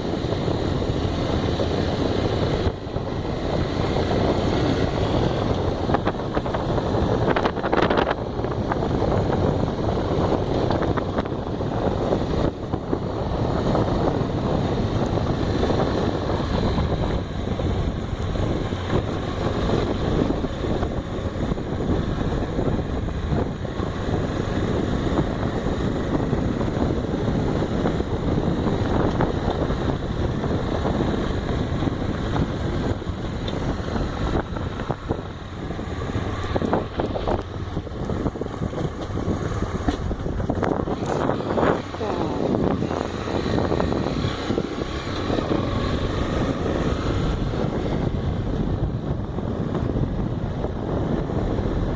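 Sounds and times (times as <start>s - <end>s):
motorcycle engine running: 0.0s - 51.9s
wind noise on microphone: 0.0s - 51.9s.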